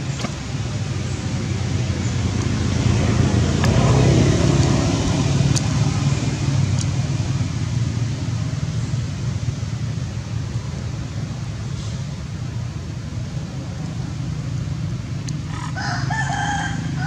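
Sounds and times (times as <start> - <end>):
vehicle passing by: 0.0 - 12.6, 13.3 - 17.0.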